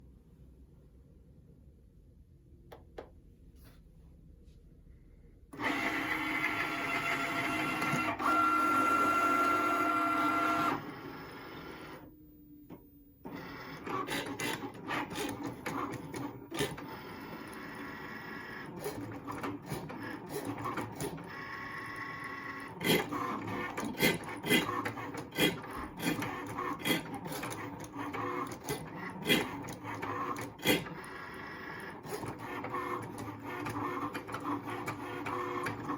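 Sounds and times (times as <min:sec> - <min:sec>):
cutting machine motors whirring: 0:05.6 - 0:35.9.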